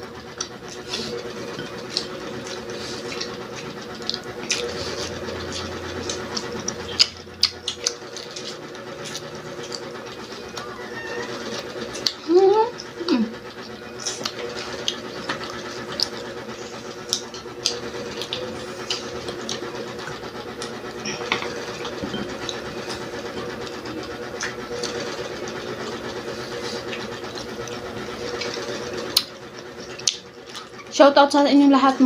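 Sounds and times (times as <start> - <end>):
food crunching while chewed: 0.0 - 31.4
steady background hum: 0.0 - 32.0.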